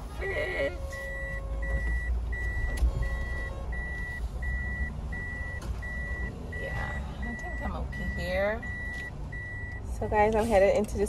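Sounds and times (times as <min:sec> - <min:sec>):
low engine rumble: 0:00.0 - 0:11.0
car reversing beeper: 0:00.2 - 0:10.4.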